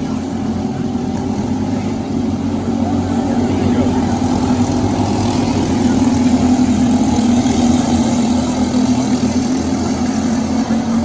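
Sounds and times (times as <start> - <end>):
kart engine running steadily: 0.0 - 11.0.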